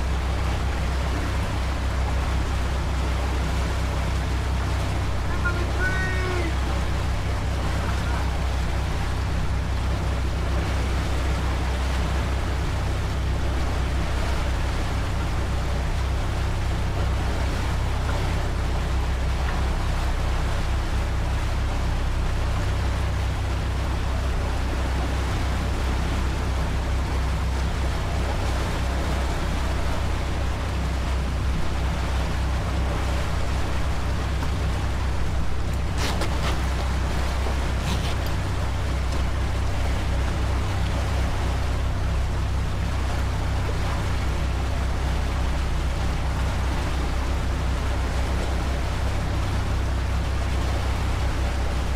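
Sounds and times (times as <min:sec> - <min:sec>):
boat engine droning: 0:00.0 - 0:51.9
water rushing: 0:00.0 - 0:51.9
wind: 0:00.0 - 0:51.9.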